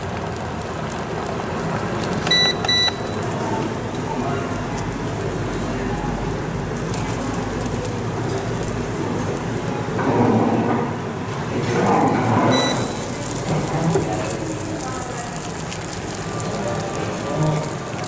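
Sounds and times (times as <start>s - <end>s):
eggs sizzling in frying pan: 0.0s - 10.0s, 12.5s - 18.0s.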